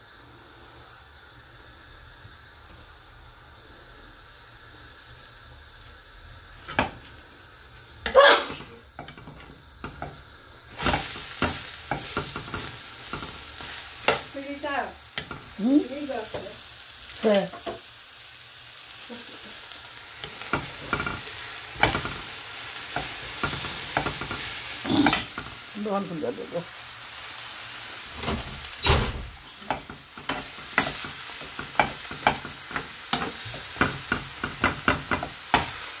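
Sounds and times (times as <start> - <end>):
bread sizzling in a pan: 0.0 - 36.0.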